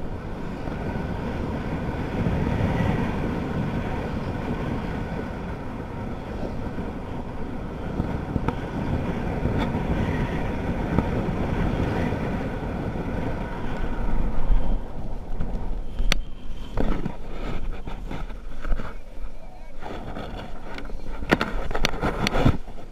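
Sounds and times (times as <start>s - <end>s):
wind rushing over microphone: 0.0s - 22.9s.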